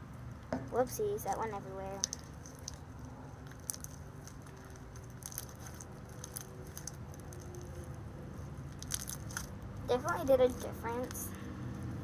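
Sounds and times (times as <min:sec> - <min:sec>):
hands kneading sticky slime: 0:01.3 - 0:11.3.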